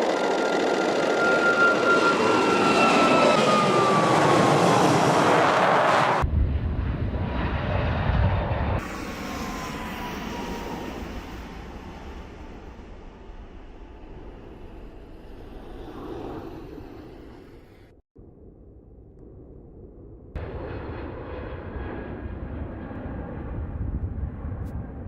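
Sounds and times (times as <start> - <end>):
jet engines passing with falling whine: 0.0 - 25.0.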